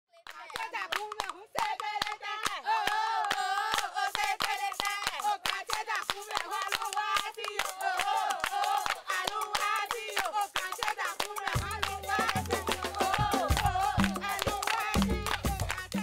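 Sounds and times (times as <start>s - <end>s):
hand claps: 0.2s - 16.0s
high voices singing together: 0.2s - 16.0s.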